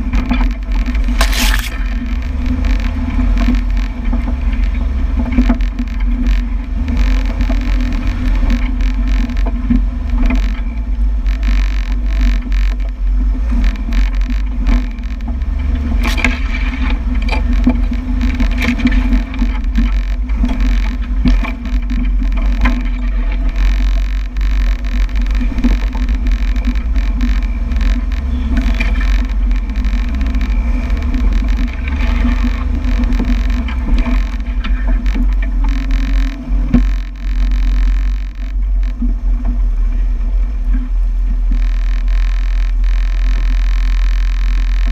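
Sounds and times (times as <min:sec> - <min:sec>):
vehicle engine droning under load: 0:00.0 - 0:44.9.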